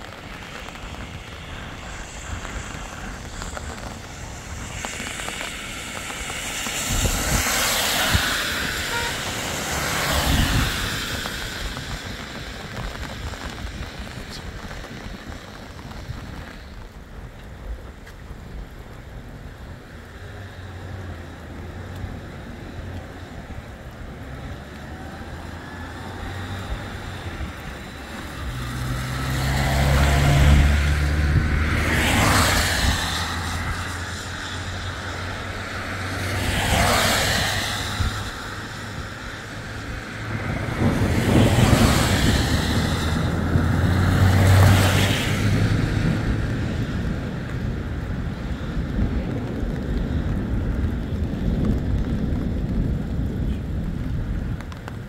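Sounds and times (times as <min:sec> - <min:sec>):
cars passing: 0:00.0 - 0:16.7, 0:18.4 - 0:55.0.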